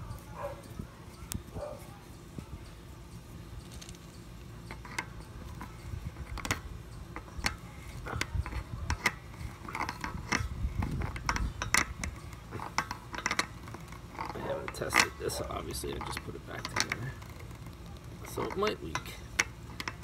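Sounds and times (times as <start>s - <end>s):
hose reel parts clicking and rattling: 0.0s - 20.0s.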